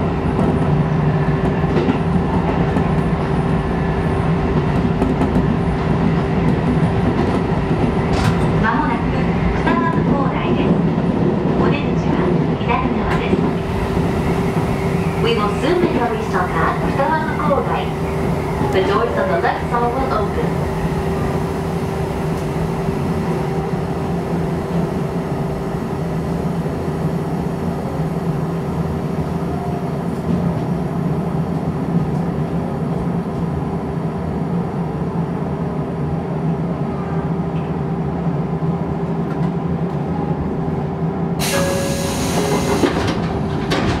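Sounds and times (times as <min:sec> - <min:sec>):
train rumbling on track: 0:00.0 - 0:44.0.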